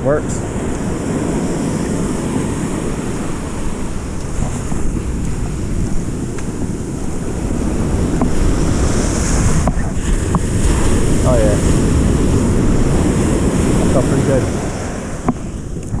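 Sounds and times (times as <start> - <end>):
ocean surf breaking: 0.0 - 16.0
wind on microphone: 0.0 - 16.0.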